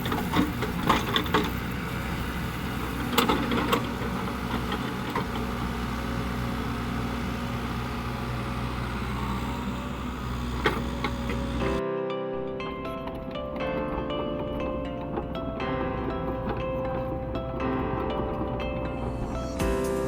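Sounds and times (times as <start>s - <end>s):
excavator diesel engine running: 0.0s - 11.8s, 12.4s - 20.0s.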